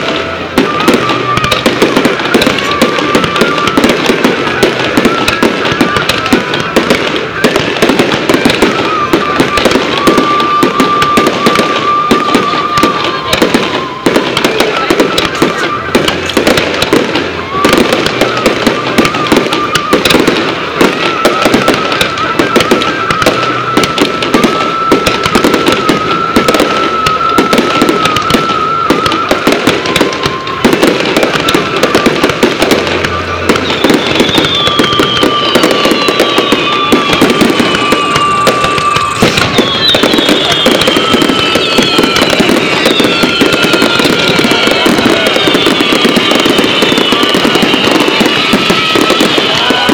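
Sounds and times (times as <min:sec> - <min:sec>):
fireworks bangs and crackling: 0:00.0 - 0:49.9
high falling whistles: 0:00.0 - 0:49.9.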